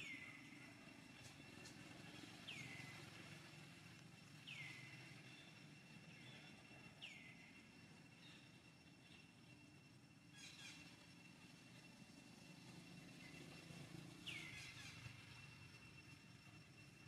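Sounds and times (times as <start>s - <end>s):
thin steady high tone: 0.0s - 17.0s.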